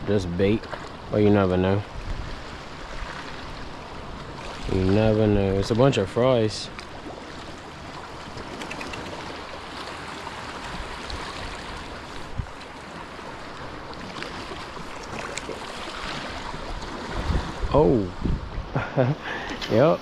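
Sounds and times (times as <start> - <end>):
sea waves washing ashore: 0.0 - 20.0
wind: 0.0 - 20.0.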